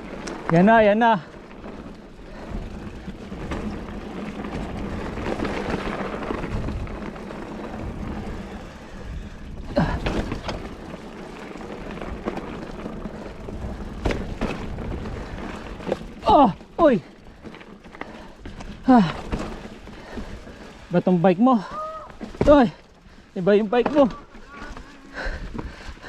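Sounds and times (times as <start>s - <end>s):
bike frame rattling: 0.0s - 26.0s
bike tyres rumbling on rocks: 0.0s - 26.0s.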